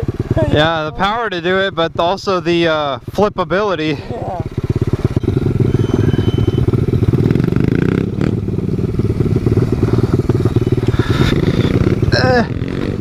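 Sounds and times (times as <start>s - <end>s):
pit bike engine running: 0.0s - 13.0s.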